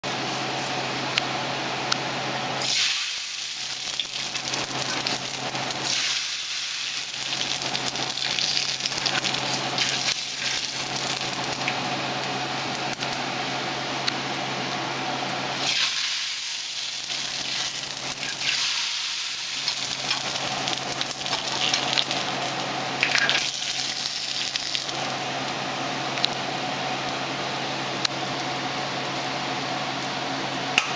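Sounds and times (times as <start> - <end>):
noodles sizzling in hot oil: 0.0 - 1.6, 2.2 - 30.8.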